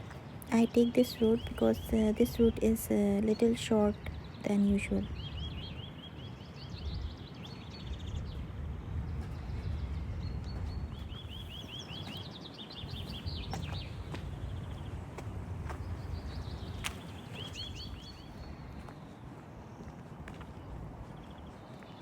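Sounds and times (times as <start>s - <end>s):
songbird chirping: 0.0s - 8.4s, 9.1s - 15.1s, 15.7s - 22.0s.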